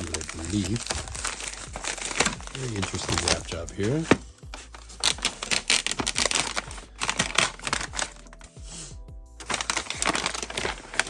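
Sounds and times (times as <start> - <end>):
packaging wrap crinkling: 0.0 - 8.7, 9.4 - 11.0.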